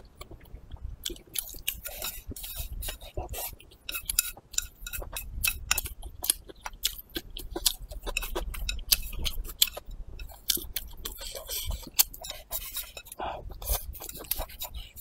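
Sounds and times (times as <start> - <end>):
wet chewing mouth clicks: 0.0 - 15.0.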